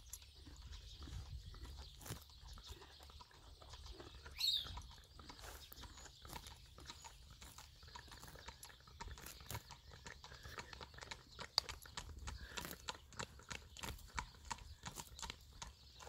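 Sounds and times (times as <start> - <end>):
hooves clip-clopping on tarmac: 0.0 - 16.0.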